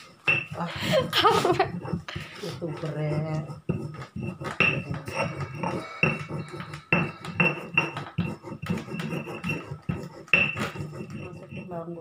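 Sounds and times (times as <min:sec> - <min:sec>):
stone pestle pounding in mortar: 0:00.0 - 0:12.0.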